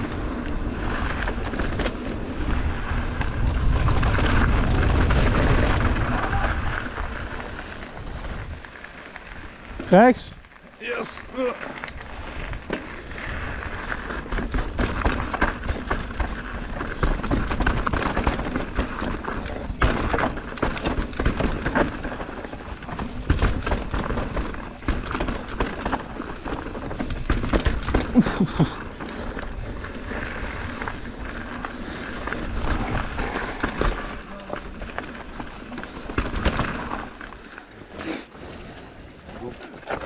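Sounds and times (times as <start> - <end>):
bike clattering over bumps: 0.0 - 8.8, 11.6 - 38.0
bike tyres and air rushing: 0.0 - 40.0.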